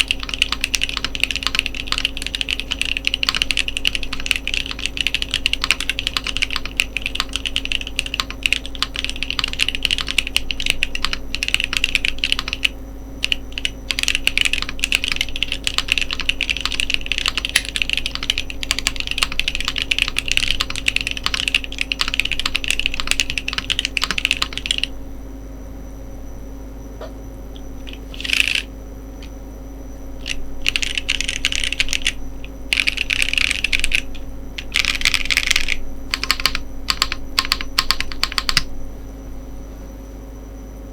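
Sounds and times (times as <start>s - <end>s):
mechanical keyboard typing: 0.0s - 24.9s, 27.8s - 28.7s, 30.2s - 38.7s.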